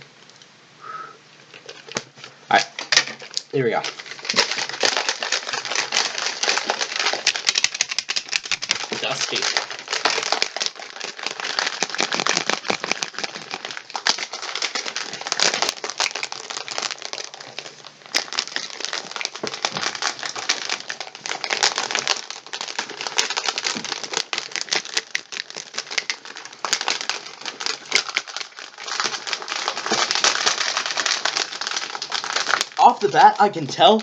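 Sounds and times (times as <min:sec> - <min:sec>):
shaker cup rattling and sloshing: 0:01.5 - 0:34.0.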